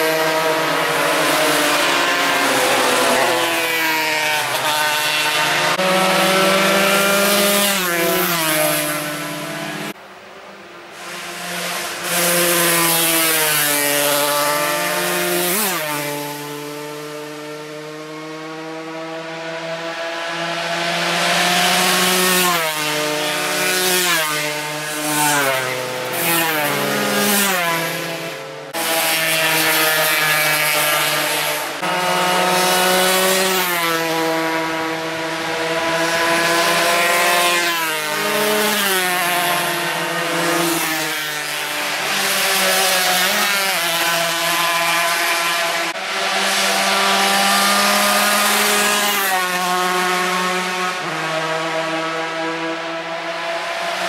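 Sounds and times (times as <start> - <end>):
racing motorcycle engines revving: 0.0 - 54.0.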